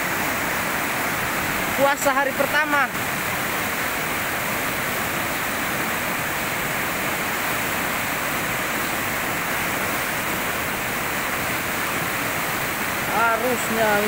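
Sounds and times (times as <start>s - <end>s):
river rapid rushing: 0.0s - 14.0s.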